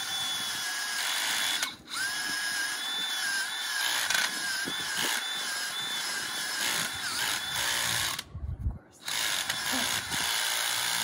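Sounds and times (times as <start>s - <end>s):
power drill motor whining: 0.0s - 8.3s, 9.0s - 11.0s.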